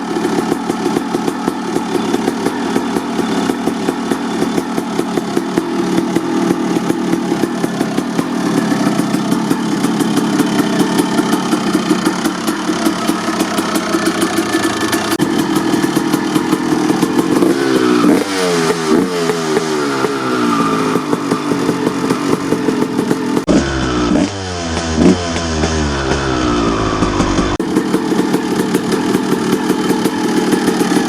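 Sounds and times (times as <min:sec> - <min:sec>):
engine throttle blips: 0:00.0 - 0:31.0
two-stroke engine idling: 0:00.0 - 0:31.0.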